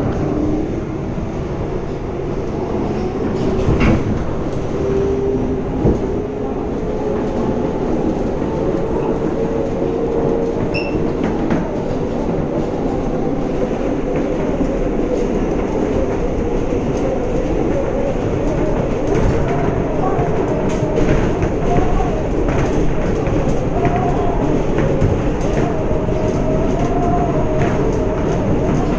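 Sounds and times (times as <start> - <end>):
rumble of train wheels on rails: 0.0 - 28.9
train car running hum: 0.0 - 28.9.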